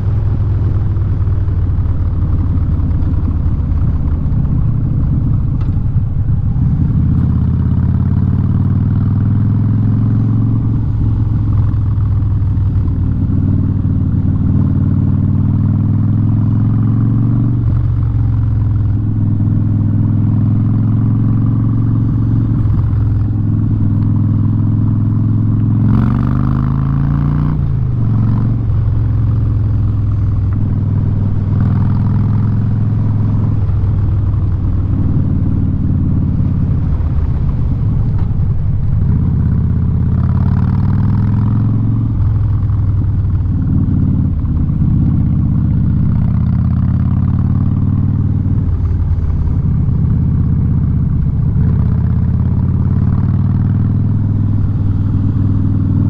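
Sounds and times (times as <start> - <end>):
loud motorcycle engine: 0.0 - 56.0.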